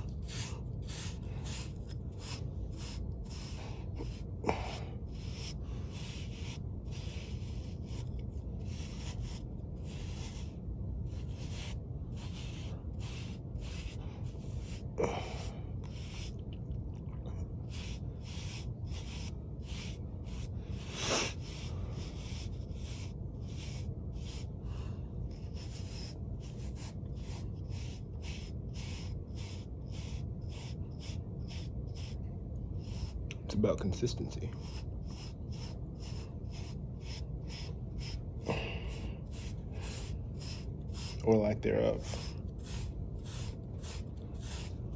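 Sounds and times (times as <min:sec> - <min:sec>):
hair brush stroking through hair: 0:00.0 - 0:16.4, 0:17.6 - 0:24.6, 0:25.4 - 0:32.2, 0:32.8 - 0:44.9.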